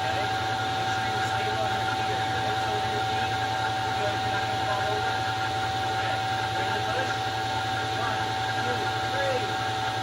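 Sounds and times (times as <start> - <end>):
power tool whining drone: 0.0 - 10.0.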